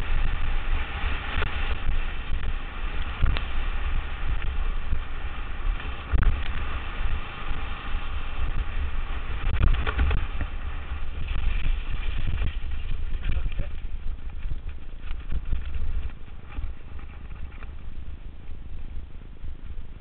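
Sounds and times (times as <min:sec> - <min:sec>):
wheels rumbling on rough lane: 0:00.0 - 0:20.0
wind buffeting microphone: 0:00.0 - 0:20.0.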